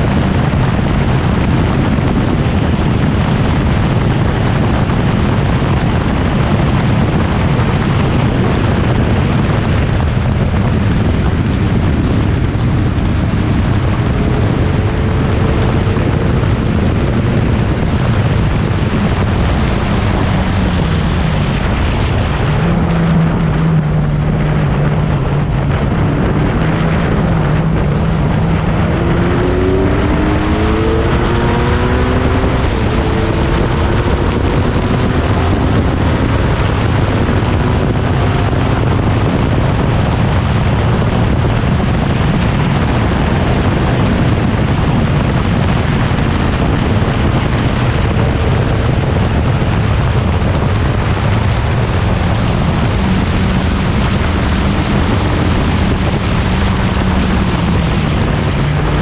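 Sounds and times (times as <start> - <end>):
racing car engine at speed: 0.0 - 59.0
wind rush: 0.0 - 59.0.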